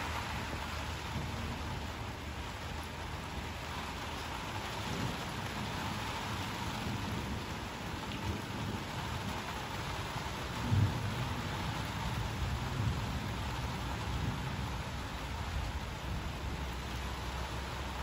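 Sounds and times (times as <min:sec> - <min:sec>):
steady rain falling: 0:00.0 - 0:18.0
low rumble of thunder: 0:00.2 - 0:03.4, 0:04.1 - 0:18.0.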